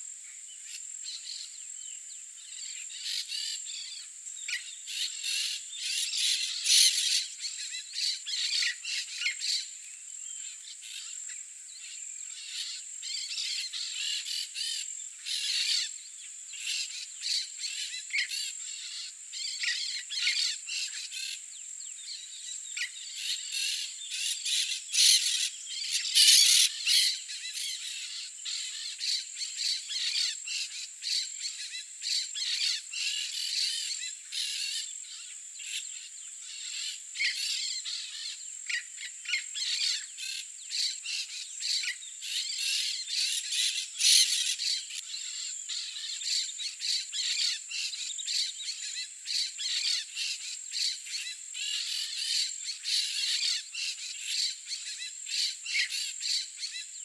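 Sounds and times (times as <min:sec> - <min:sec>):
high insect whine: 0:00.0 - 0:57.0.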